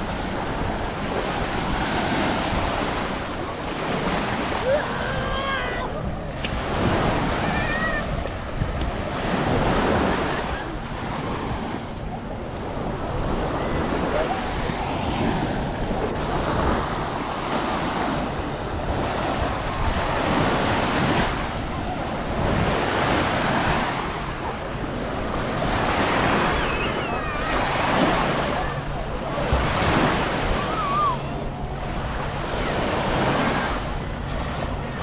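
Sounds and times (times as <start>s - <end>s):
sea waves breaking on beach: 0.0s - 35.0s
wind buffeting microphone: 0.0s - 35.0s.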